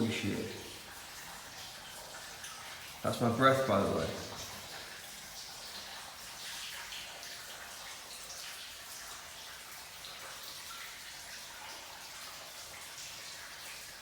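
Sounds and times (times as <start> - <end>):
water trickling in a cave: 0.0 - 14.0.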